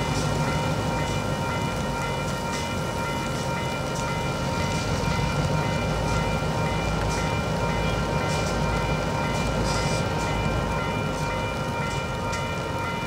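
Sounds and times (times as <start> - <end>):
locomotive low rumble: 0.0 - 13.0.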